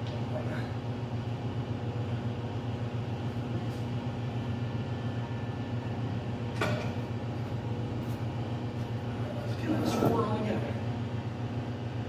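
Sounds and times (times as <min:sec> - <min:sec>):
air compressor droning: 0:00.0 - 0:12.0.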